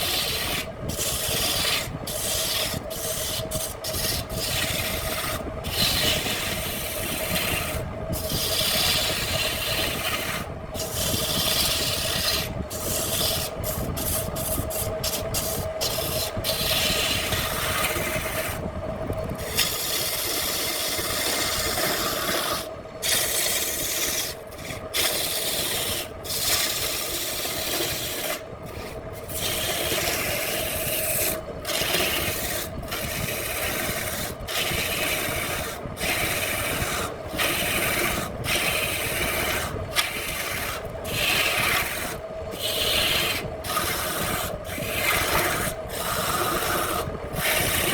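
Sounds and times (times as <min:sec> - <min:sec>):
wood rasping on a lathe: 0:00.0 - 0:18.6, 0:19.4 - 0:47.9.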